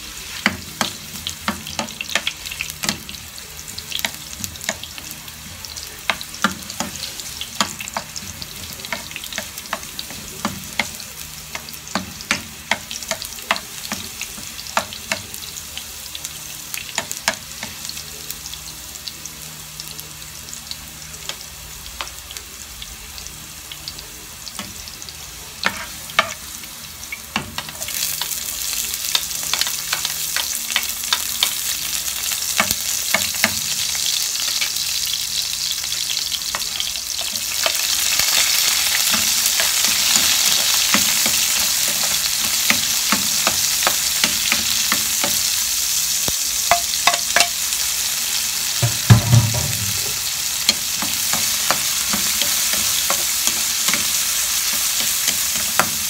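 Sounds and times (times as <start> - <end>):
onion sizzling in hot oil: 0.0 - 56.0.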